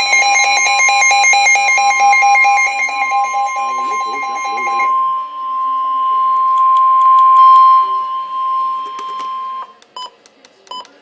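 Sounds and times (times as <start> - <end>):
steady high alert tone: 0.0 - 9.7
short beeps: 0.0 - 10.1.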